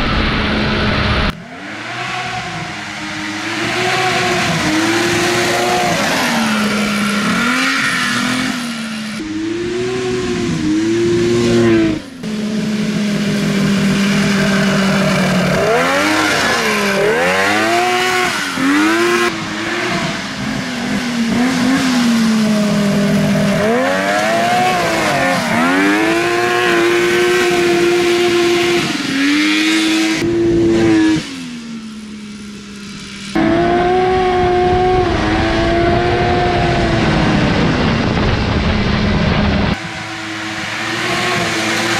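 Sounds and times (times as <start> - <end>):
two-stroke engine revving: 1.0 - 41.9.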